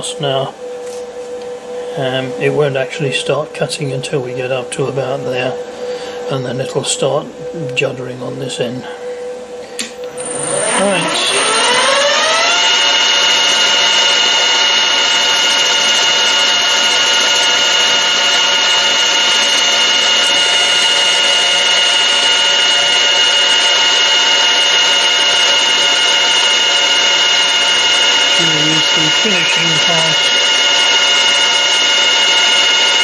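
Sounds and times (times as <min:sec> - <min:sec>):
lathe whining: 0:00.0 - 0:33.0.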